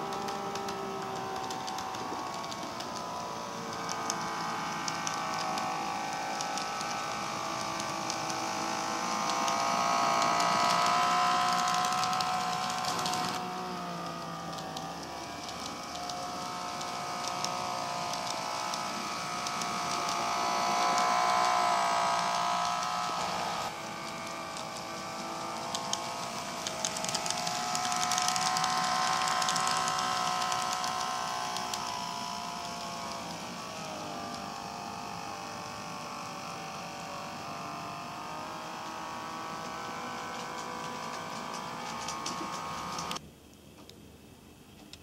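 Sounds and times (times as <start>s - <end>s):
model train motor whine: 0.0s - 43.2s
wheels ticking on track: 0.0s - 43.2s.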